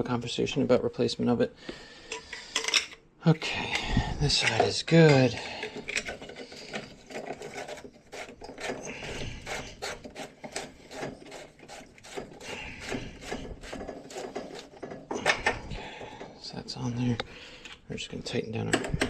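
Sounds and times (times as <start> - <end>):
plastic fittings rubbing and scraping: 2.1 - 19.0.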